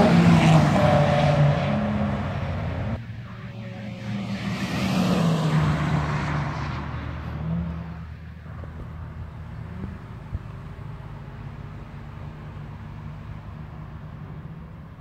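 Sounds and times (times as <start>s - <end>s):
sports car passing at speed: 0.0s - 15.0s.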